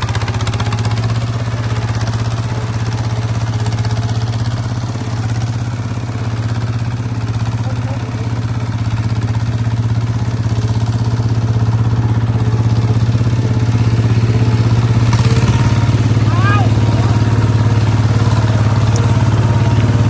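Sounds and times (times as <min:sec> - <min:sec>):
bulldozer engine droning: 0:00.0 - 0:20.0.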